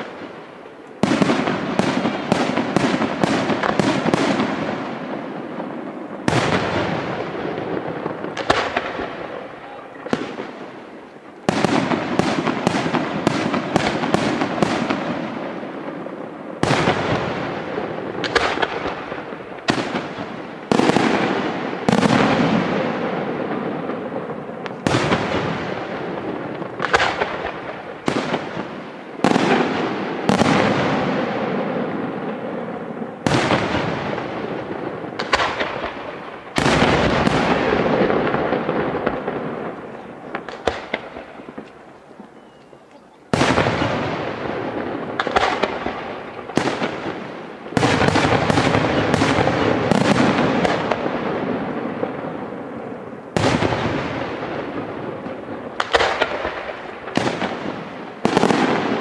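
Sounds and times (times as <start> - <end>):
firework bursts with crackling: 0.0 - 59.0.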